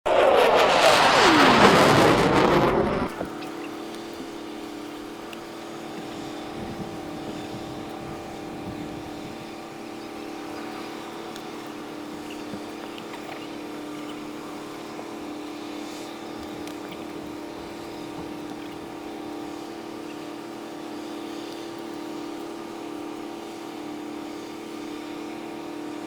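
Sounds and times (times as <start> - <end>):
mechanical hum with tones: 0.0 - 26.0.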